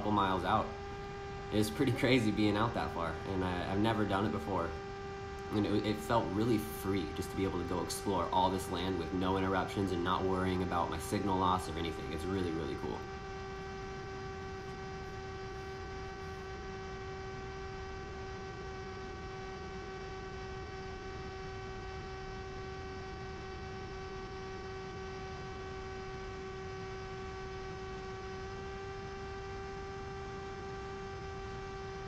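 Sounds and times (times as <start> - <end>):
electric motor and propeller whine: 0.0 - 32.0.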